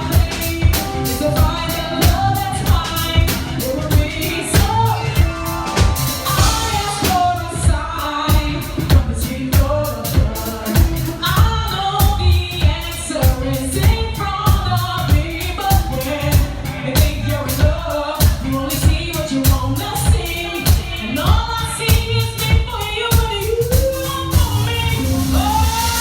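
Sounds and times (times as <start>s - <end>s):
drums steady beat: 0.0s - 26.0s
live band playing: 0.0s - 26.0s
woman singing lead: 0.0s - 26.0s.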